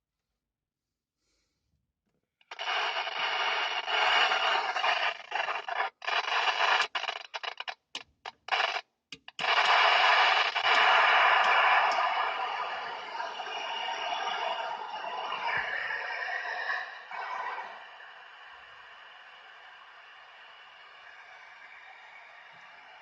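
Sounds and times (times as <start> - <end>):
radio speaker static hiss: 2.5 - 23.0.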